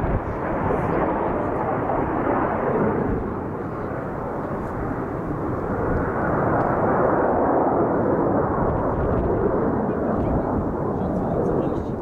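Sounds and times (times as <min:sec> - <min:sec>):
jet engine roar overhead: 0:00.0 - 0:12.0.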